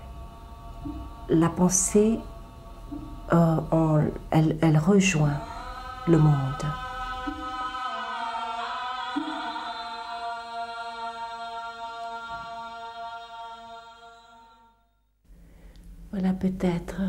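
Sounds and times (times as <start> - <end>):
voices chanting drone: 0.0 - 14.9.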